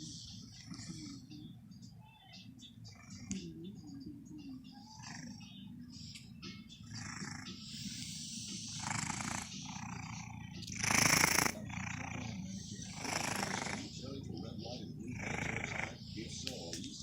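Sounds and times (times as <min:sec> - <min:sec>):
kitten snoring: 0:00.0 - 0:02.2, 0:02.8 - 0:03.7, 0:04.7 - 0:16.9.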